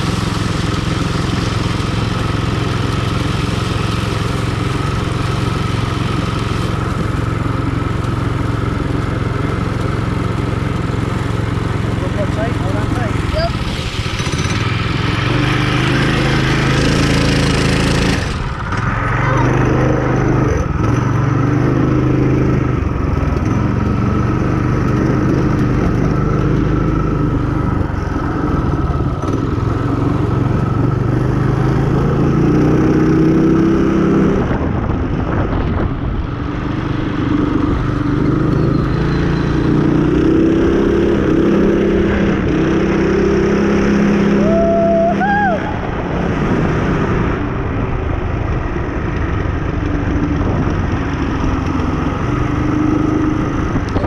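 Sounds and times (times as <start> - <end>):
small motorbike engine: 0.0 - 54.0.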